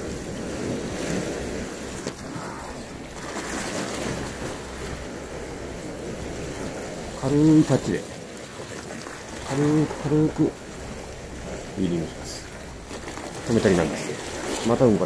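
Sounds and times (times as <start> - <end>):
waves washing against seawall: 0.0 - 15.0.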